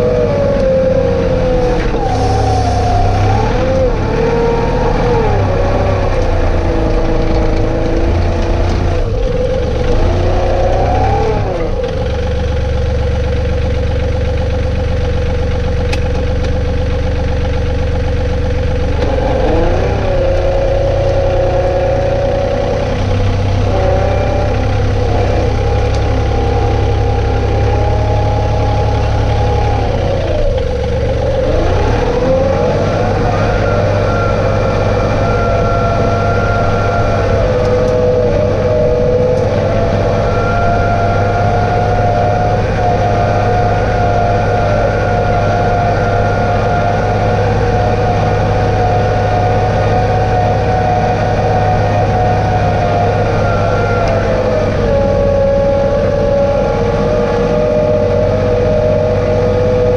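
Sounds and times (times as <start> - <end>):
mechanical whine: 0.0 - 59.9
tractor diesel engine running: 0.0 - 59.9.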